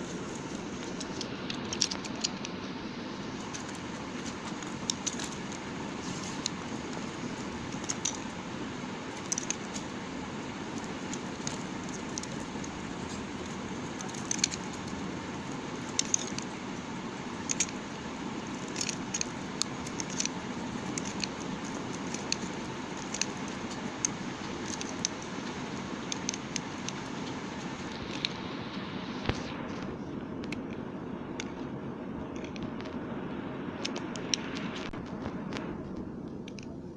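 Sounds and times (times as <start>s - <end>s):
background hiss: 0.0s - 36.9s.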